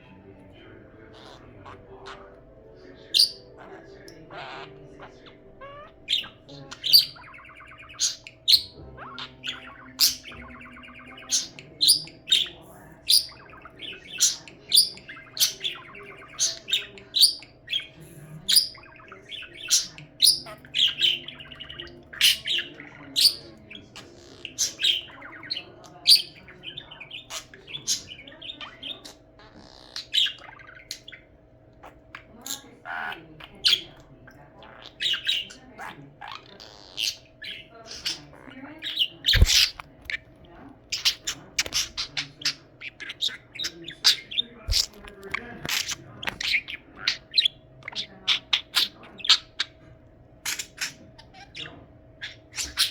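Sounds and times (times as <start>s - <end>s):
budgerigar chattering: 0.0s - 52.9s.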